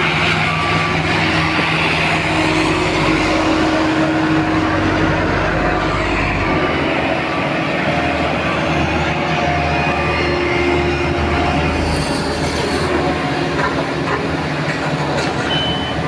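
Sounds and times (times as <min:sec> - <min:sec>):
diesel machinery engine drone: 0:00.0 - 0:16.0.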